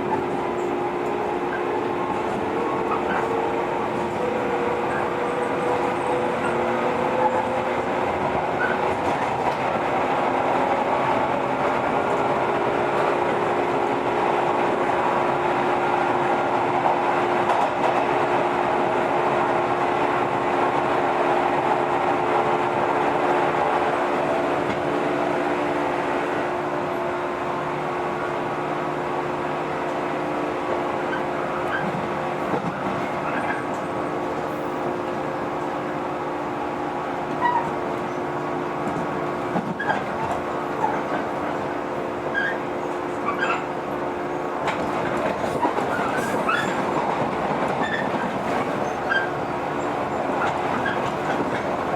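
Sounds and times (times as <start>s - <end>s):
train wheels clickety-clack on rail: 0.0s - 51.9s.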